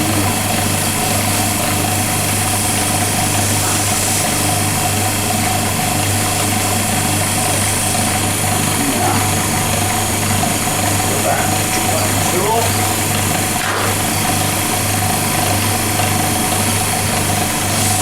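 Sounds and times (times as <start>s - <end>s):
wood lathe motor humming: 0.0s - 18.0s.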